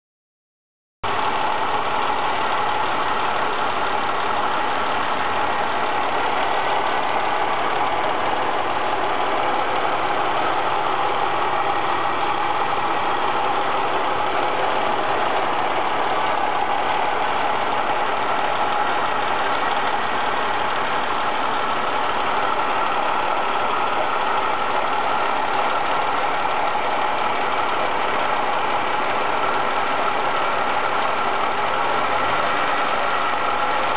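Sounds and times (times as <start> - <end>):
car engine idling: 1.0 - 33.9.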